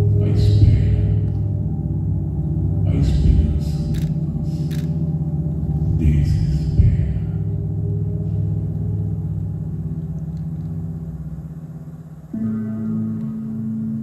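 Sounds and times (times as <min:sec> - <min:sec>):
low droning music: 0:00.0 - 0:14.0.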